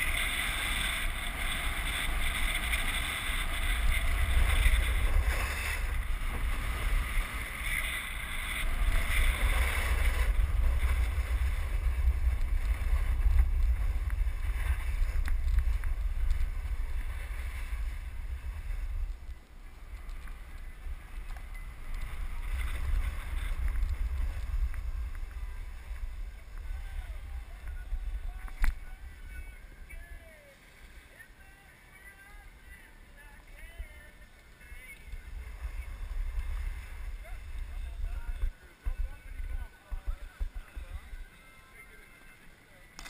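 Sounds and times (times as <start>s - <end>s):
snowboard scraping on snow: 0.0s - 19.0s, 20.3s - 29.8s, 35.2s - 41.2s
wind buffeting microphone: 0.0s - 30.4s, 35.0s - 41.3s.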